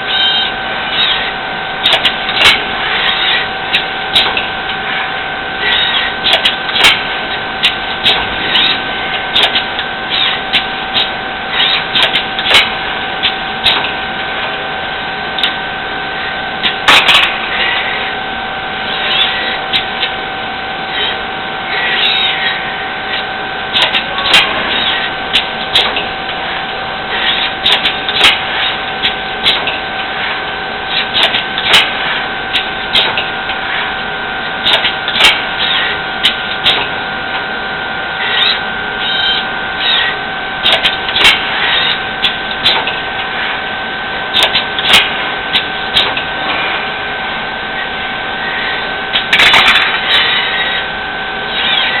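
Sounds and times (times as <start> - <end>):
machine whine: 0.0 - 52.0
machine clicks and clanks: 0.1 - 14.7, 15.3 - 15.6, 16.2 - 18.0, 18.9 - 20.2, 21.8 - 34.0, 34.6 - 37.4, 38.2 - 43.7, 44.3 - 46.9, 47.7 - 50.9, 51.5 - 52.0.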